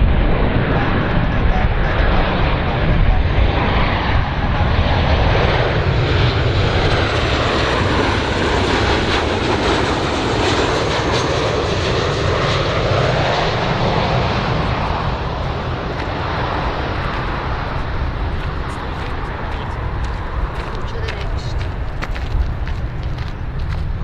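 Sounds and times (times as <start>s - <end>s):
airplane engines running: 0.0s - 24.0s.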